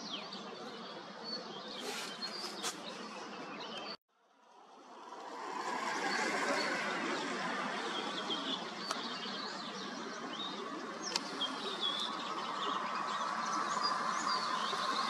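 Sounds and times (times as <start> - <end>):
songbirds chirping: 0.0 - 4.0, 5.6 - 15.0
steady outdoor hiss: 0.0 - 15.0.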